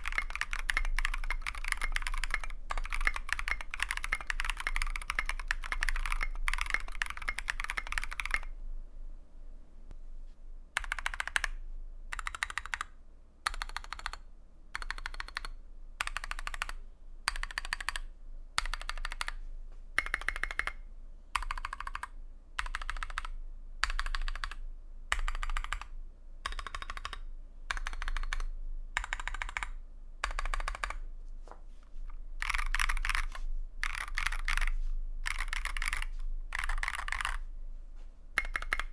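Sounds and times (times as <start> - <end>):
fast typing on mechanical keyboard: 0.0 - 8.5, 10.8 - 12.9, 13.5 - 14.2, 14.8 - 19.4, 20.0 - 20.8, 21.4 - 31.0, 32.4 - 37.4, 38.4 - 38.9.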